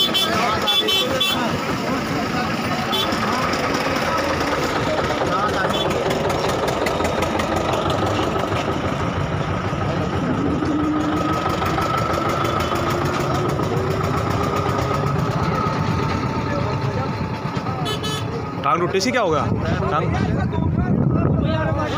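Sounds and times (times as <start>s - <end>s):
vehicle engine idling: 0.0s - 20.7s.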